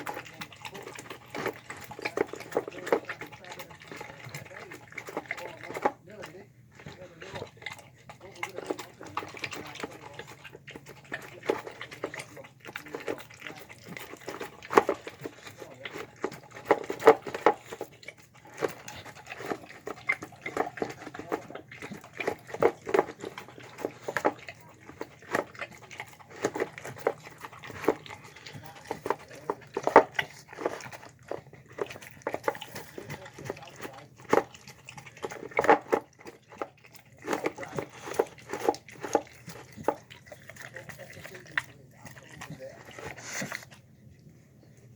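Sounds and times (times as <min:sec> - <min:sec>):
dog chomping food: 0:00.0 - 0:44.9.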